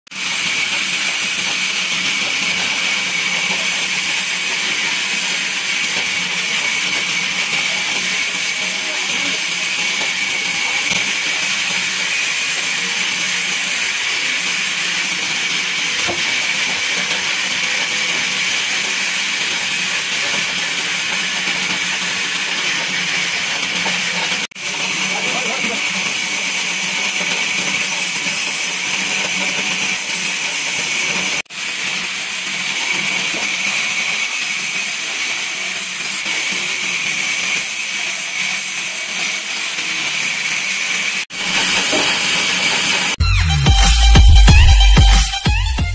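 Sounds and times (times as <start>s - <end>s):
band saw cutting log: 0.1s - 45.9s.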